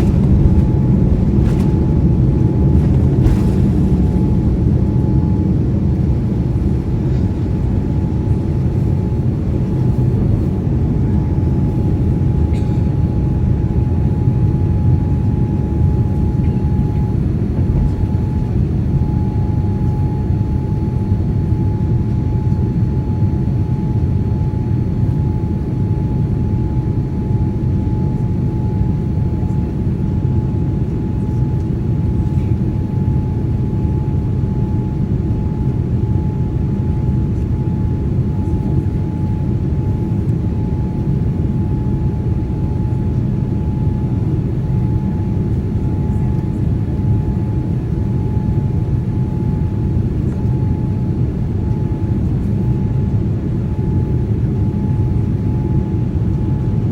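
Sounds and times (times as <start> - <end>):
jet engines roaring at takeoff: 0.0 - 56.9.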